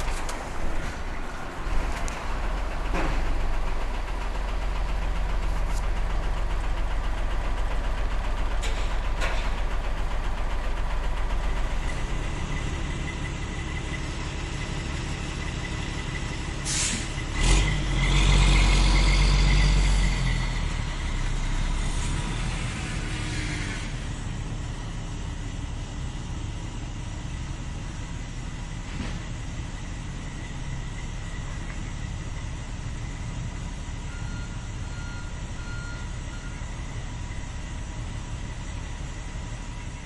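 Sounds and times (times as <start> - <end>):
model truck engine rumble: 0.0 - 40.0.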